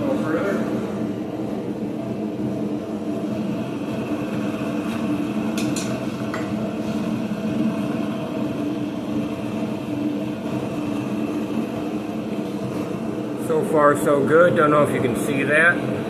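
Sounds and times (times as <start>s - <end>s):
forge mechanical hum: 0.0s - 16.0s.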